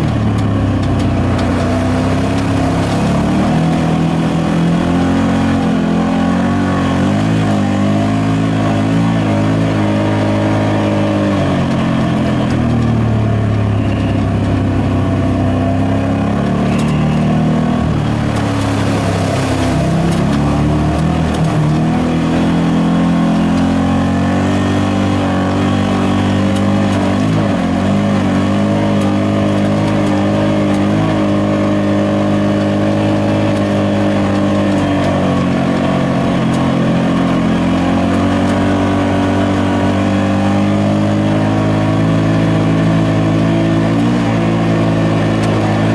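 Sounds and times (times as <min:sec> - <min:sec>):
vehicle engine under throttle: 0:00.0 - 0:45.9
water splashing: 0:00.0 - 0:45.9.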